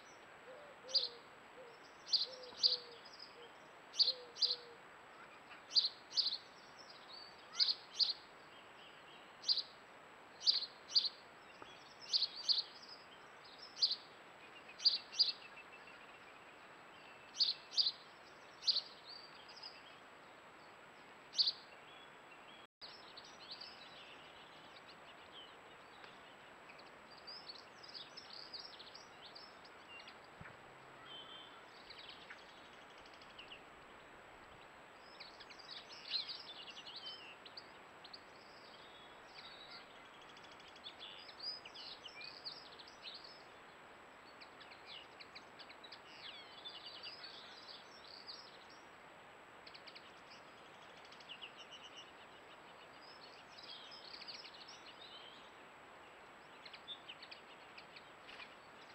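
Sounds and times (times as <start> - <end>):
songbirds singing and chirping: 0.0 - 58.9.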